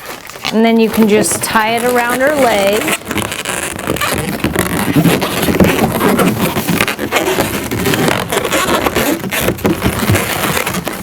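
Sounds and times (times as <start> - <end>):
balloons squeaking and rubbing: 0.0 - 11.0.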